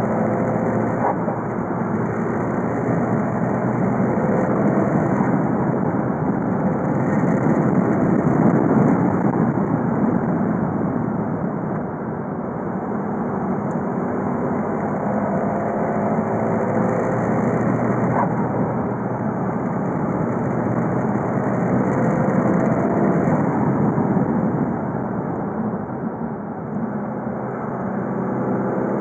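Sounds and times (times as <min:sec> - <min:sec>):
diesel car engine running: 0:00.0 - 0:29.0
road noise: 0:00.0 - 0:29.0.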